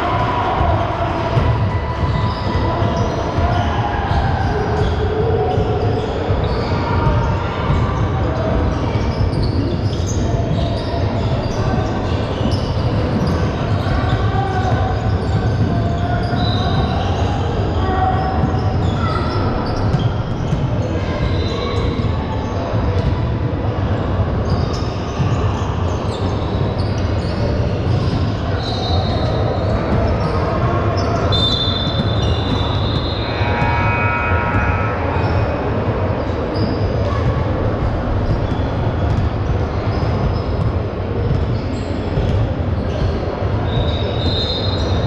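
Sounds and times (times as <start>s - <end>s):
crowd chatter: 0.0s - 45.0s
basketball bouncing on court: 1.4s - 23.6s, 24.3s - 35.9s, 36.5s - 45.0s.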